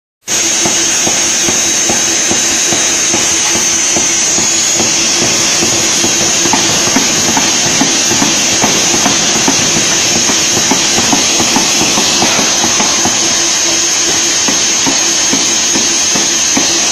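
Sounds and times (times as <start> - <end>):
pneumatic forging hammer hiss and hum: 0.2 - 16.9
hammer ram striking hot steel: 0.3 - 16.9.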